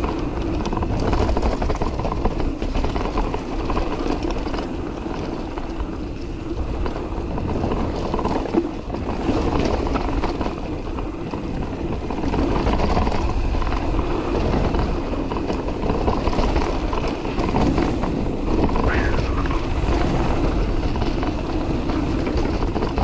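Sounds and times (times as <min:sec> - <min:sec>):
bike rattling over bumps: 0:00.0 - 0:23.0
tyres rolling over dirt: 0:00.0 - 0:23.0
wind on microphone: 0:00.0 - 0:23.0.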